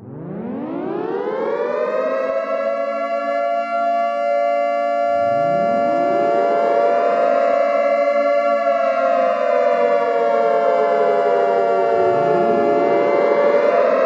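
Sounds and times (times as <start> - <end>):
air-raid siren wailing: 0.0 - 14.0
second siren: 0.0 - 14.0.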